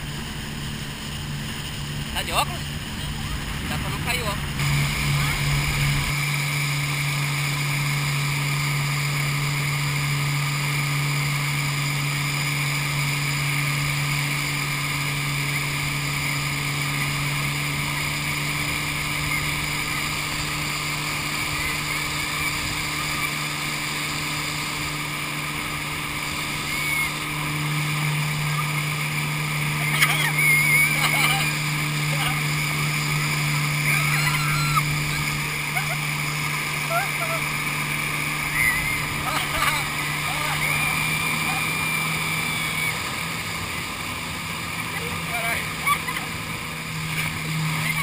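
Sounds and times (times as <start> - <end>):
motorboat engine droning: 0.0 - 48.0
wake and spray rushing: 0.0 - 48.0.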